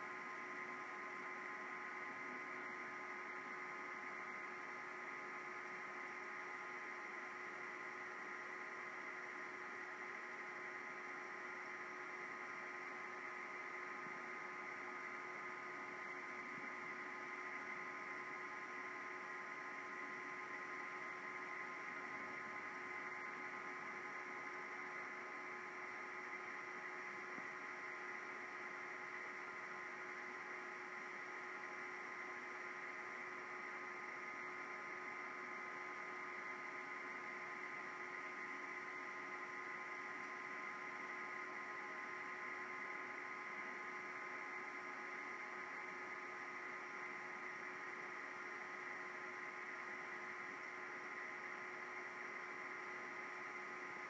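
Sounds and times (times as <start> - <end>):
electrical hum and hiss: 0.0 - 54.0.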